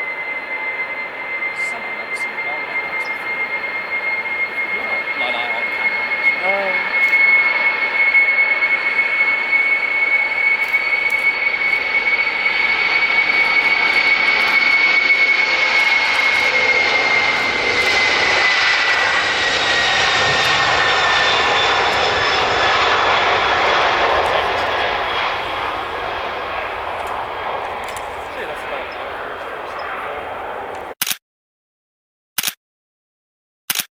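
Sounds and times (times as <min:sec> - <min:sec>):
high jet whine: 0:00.0 - 0:31.0
jet engines roaring: 0:00.0 - 0:31.0.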